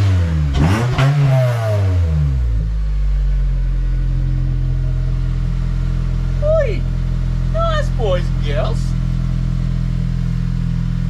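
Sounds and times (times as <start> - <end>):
car engine revving and idling: 0.0 - 11.0.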